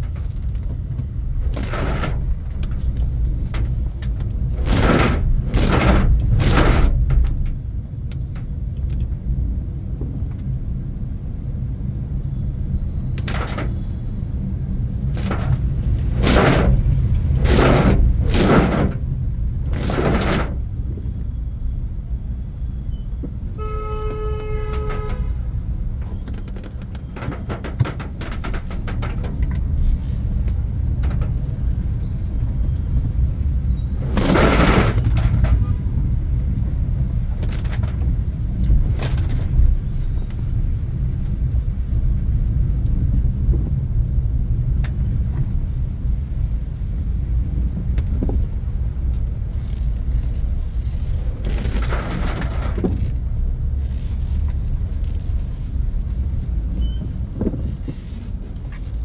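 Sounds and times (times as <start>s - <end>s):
engine and tyres rumbling: 0.0s - 59.0s.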